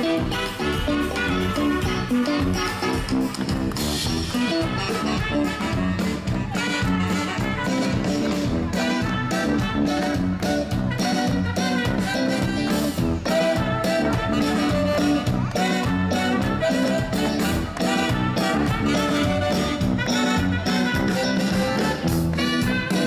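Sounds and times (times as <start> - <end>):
drums: 0.0 - 23.0
electric guitar: 0.0 - 23.0
saxophones: 0.0 - 23.0
trumpet: 0.0 - 23.0.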